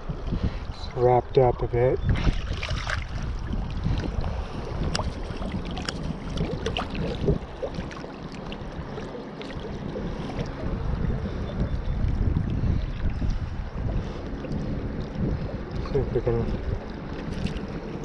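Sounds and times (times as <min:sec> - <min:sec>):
river water splashing: 0:02.1 - 0:18.0.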